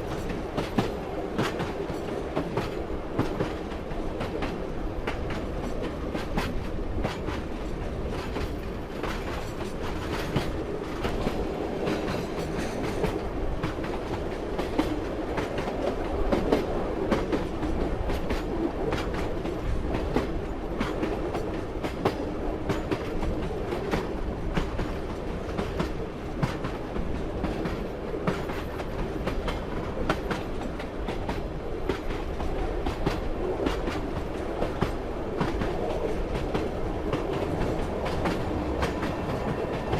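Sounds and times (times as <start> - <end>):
railway carriage rumbling: 0.0 - 39.9.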